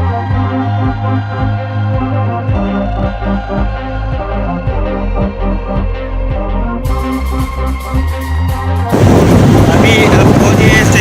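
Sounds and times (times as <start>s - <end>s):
electronic music with beat: 0.0s - 8.9s.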